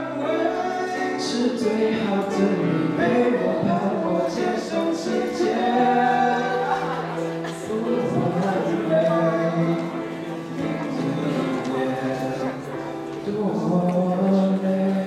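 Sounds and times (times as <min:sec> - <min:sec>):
electric keyboard: 0:00.0 - 0:15.0
two men singing into microphones: 0:00.0 - 0:15.0.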